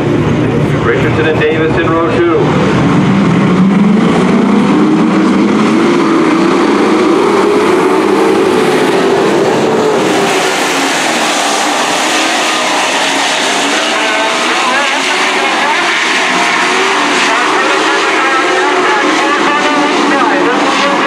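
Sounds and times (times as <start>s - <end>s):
race truck engines running hard: 0.0s - 21.0s.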